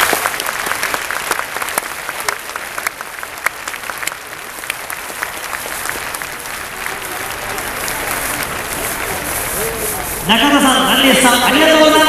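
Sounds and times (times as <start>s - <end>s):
sharp claps close by: 0.0s - 10.0s
stadium crowd applauding: 0.0s - 12.0s.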